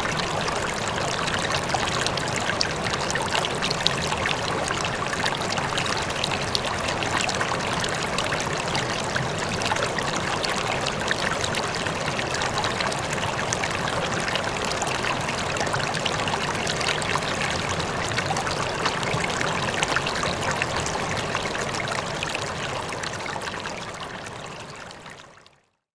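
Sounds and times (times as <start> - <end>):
river water flowing over stones: 0.0 - 25.0.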